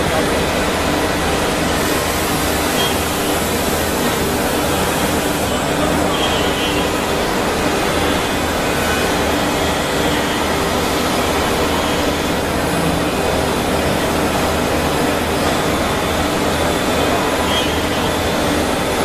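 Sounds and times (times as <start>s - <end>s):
wood-carving router running: 1.7s - 19.0s.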